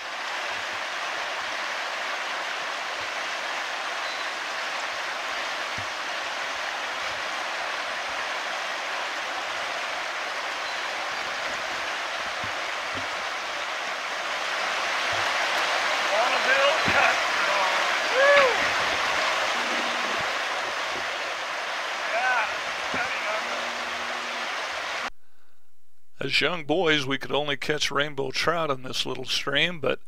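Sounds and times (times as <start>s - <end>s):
creek rushing over rocks: 0.0s - 25.1s.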